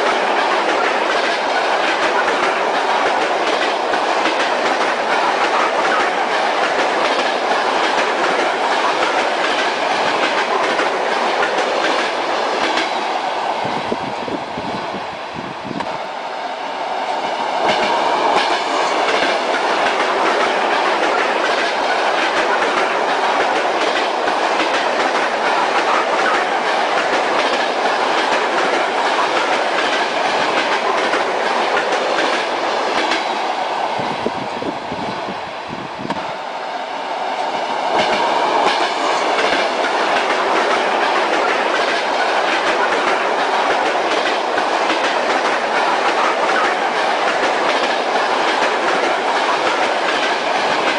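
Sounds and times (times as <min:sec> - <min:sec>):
train wheels clacking over rail joints: 0:00.0 - 0:13.1, 0:17.3 - 0:33.6, 0:37.5 - 0:50.9
train running rumble: 0:00.0 - 0:14.8, 0:16.9 - 0:36.6, 0:37.2 - 0:50.9.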